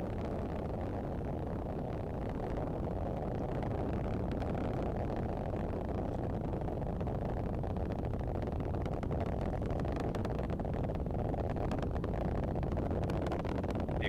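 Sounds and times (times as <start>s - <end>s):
rocket engines rumbling and crackling: 0.0s - 14.0s.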